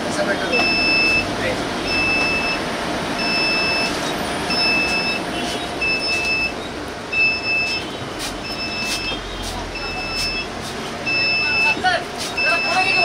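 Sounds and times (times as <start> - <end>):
steady background noise: 0.0 - 13.0
bus door warning beeps: 0.4 - 13.0.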